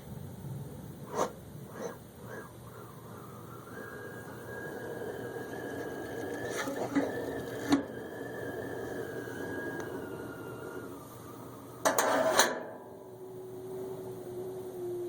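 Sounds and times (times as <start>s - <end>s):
wind rush with thin whistle: 1.0s - 15.0s
low steady tone: 1.6s - 15.0s.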